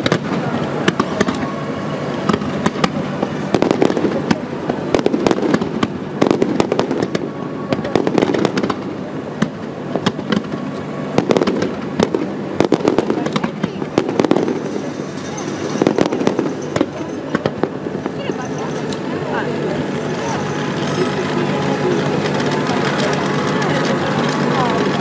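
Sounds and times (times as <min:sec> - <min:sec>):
fireworks cracking and popping: 0:00.0 - 0:25.0.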